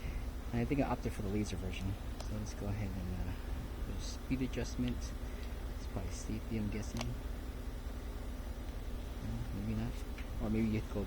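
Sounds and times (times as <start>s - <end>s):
low background hum and hiss: 0.0s - 11.0s.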